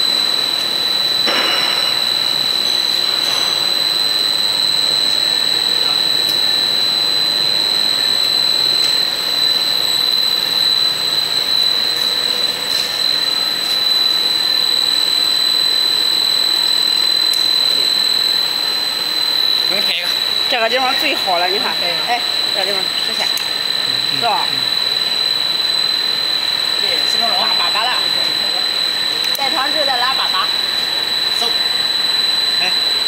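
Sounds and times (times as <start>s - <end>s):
high-pitched machine whine: 0.0s - 33.0s.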